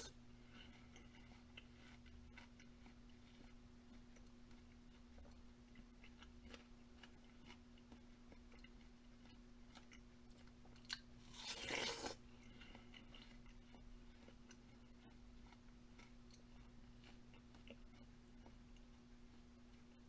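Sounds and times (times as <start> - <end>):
small chewing clicks: 0.0 - 11.2, 12.2 - 20.0
steady low hum: 0.0 - 20.0.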